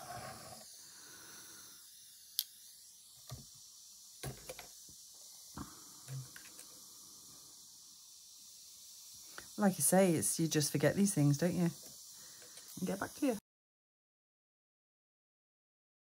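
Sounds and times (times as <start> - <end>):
soldering iron hissing: 0.0 - 13.4.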